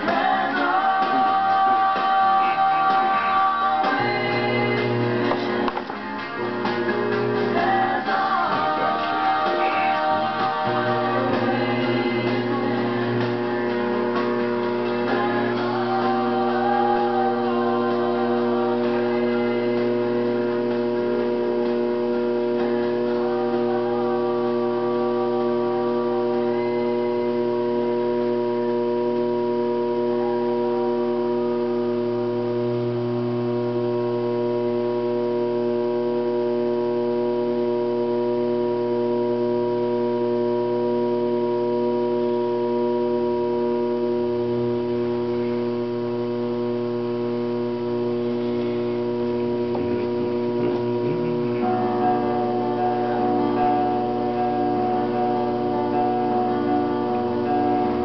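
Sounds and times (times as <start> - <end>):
steady hum of held tones: 0.0 - 58.0.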